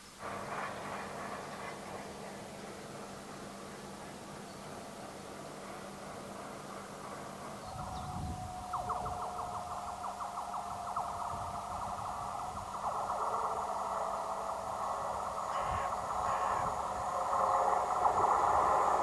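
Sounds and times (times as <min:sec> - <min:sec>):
low locomotive rumble: 0:00.0 - 0:19.0
train wheels squealing on rails: 0:00.0 - 0:19.0.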